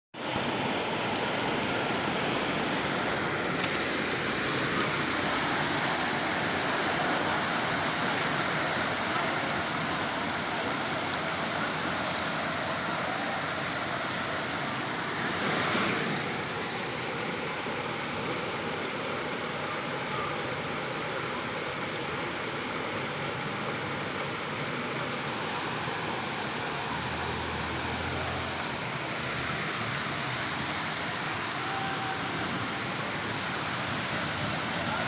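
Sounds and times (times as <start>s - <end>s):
rain falling steadily: 0.2s - 35.0s.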